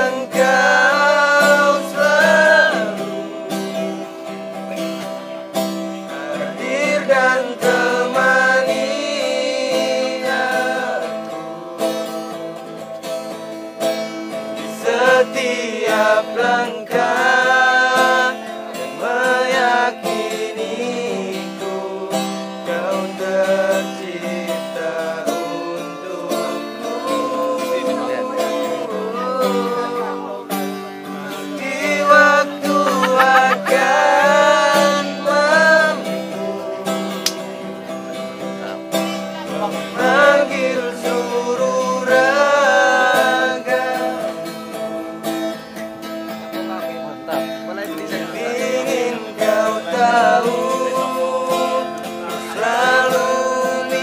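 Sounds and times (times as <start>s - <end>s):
man singing: 0.0s - 4.1s, 6.0s - 13.0s, 14.0s - 37.8s, 38.6s - 45.1s, 47.3s - 54.0s
acoustic guitar chords: 0.0s - 54.0s.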